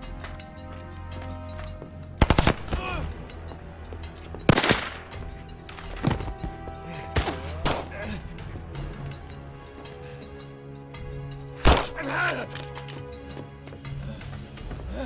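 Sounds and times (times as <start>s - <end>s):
sustained soundtrack music: 0.0s - 15.0s.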